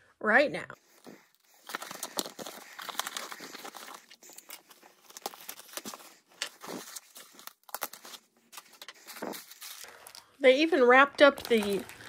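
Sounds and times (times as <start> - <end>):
foam packing wrap crinkling: 0.9 - 10.3, 11.3 - 12.0.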